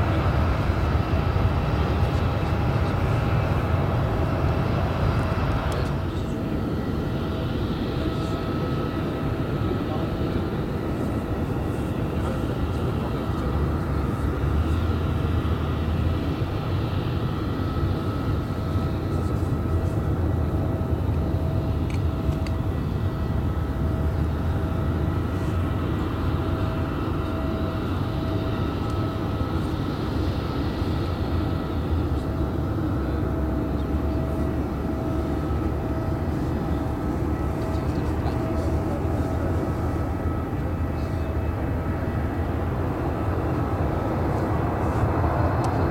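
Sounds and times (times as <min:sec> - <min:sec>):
jet engines whining at low power: 0:00.0 - 0:45.9.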